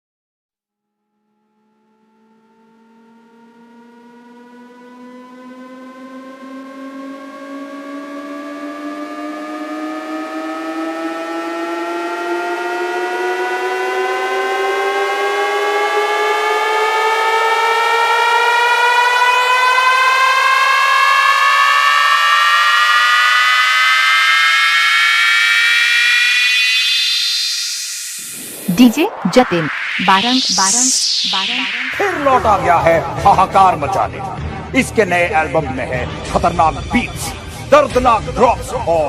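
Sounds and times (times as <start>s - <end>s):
synthesized rising sweep: 1.2s - 39.0s.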